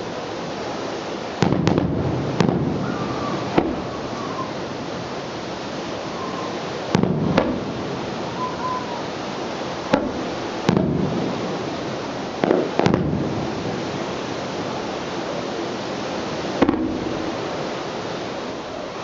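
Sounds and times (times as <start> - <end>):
steady rushing noise: 0.0 - 19.0
fireworks bangs: 1.4 - 15.3, 16.2 - 17.8.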